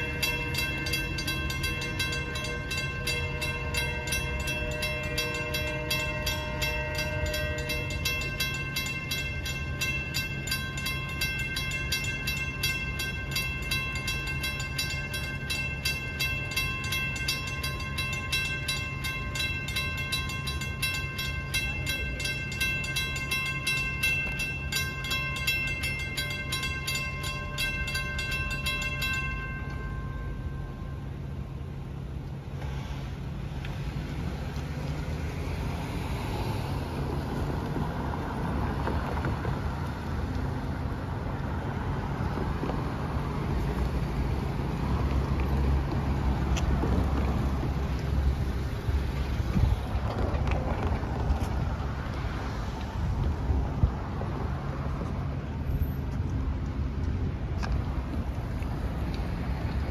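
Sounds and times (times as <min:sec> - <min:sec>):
railroad crossing bell dinging: 0:00.0 - 0:32.6, 0:33.2 - 0:50.8
train rumbling: 0:00.0 - 0:59.9.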